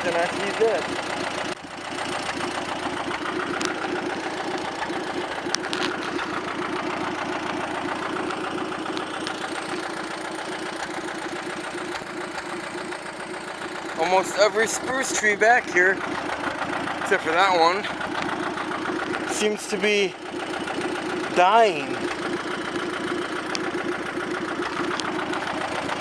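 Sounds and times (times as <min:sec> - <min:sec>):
tractor engine chugging: 0:00.0 - 0:26.0.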